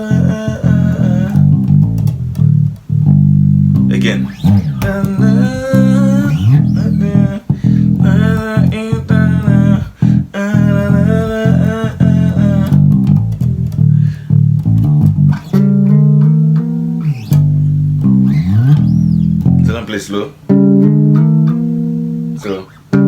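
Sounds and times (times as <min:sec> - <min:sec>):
electric bass guitar: 0:00.0 - 0:23.0.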